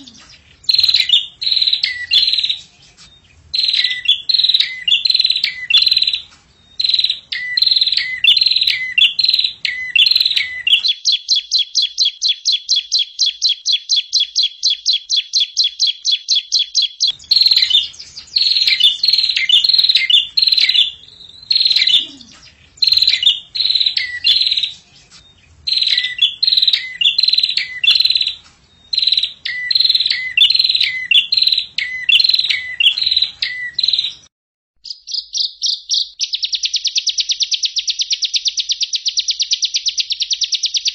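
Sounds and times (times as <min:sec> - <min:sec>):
rapid bird trill: 0:00.0 - 0:40.9
songbird chirping phrases: 0:00.0 - 0:40.9.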